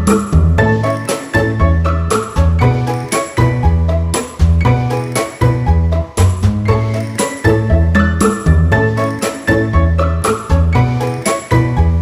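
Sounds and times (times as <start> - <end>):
tinkly melody with bass beat: 0.0 - 12.0.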